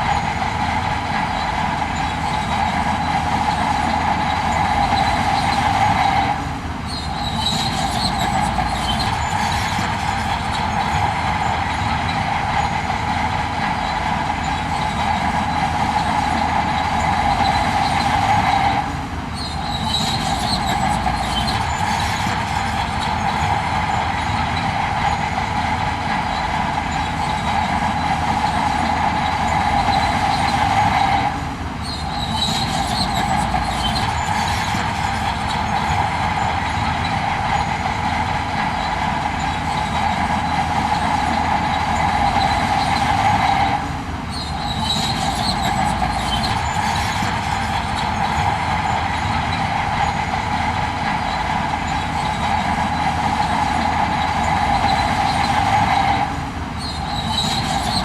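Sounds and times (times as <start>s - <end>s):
heavy machinery engine rumble: 0.0s - 58.0s
high squealing grinding: 0.0s - 58.0s.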